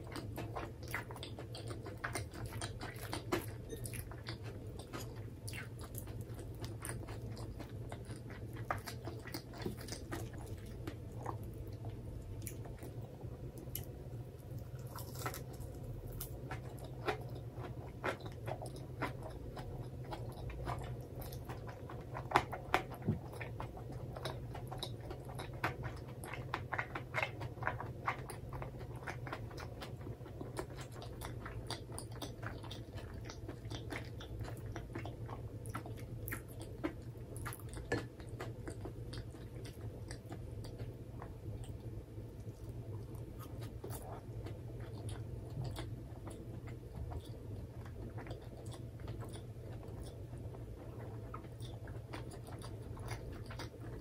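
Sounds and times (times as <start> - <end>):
wet crunchy chewing: 0.0 - 54.0.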